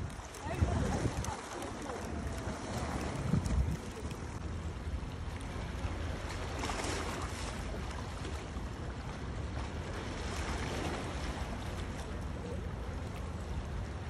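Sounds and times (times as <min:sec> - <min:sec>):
water lapping against rocks: 0:00.0 - 0:14.0
wind rumbling on microphone: 0:00.0 - 0:14.0.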